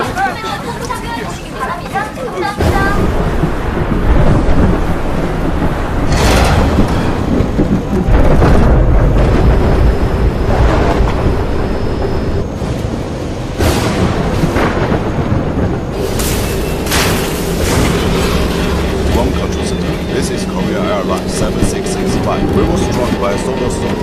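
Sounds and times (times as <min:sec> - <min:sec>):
rumble of thunder: 0:02.5 - 0:24.0
sharp thunderclaps: 0:02.5 - 0:24.0.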